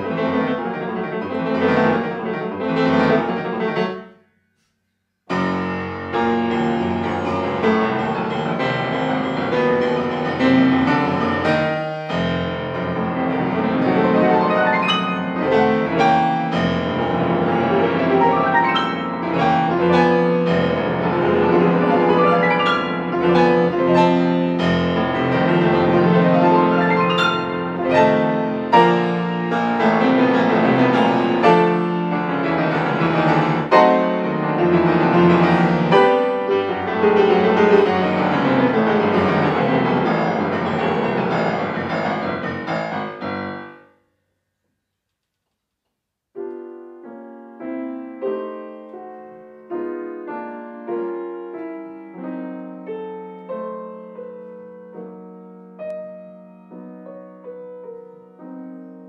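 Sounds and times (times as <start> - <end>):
grand piano playing: 0.0 - 4.2, 5.3 - 43.9, 46.4 - 59.0.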